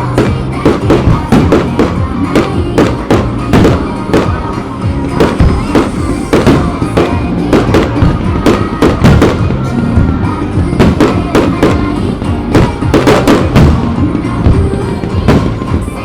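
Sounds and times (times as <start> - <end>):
fireworks bursting: 0.0 - 16.0
music playing: 0.0 - 16.0.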